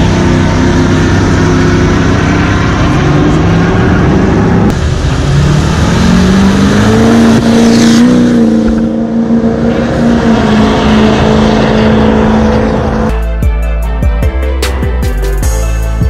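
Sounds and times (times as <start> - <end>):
diesel truck accelerating hard: 0.0 - 13.1.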